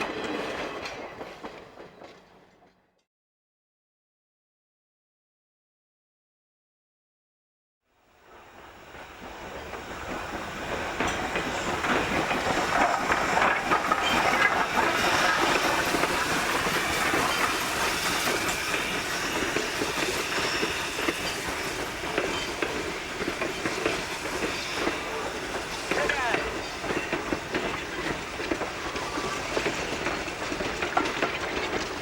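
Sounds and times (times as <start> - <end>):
train wheels clattering over rail joints: 0.0 - 2.9, 9.0 - 32.0.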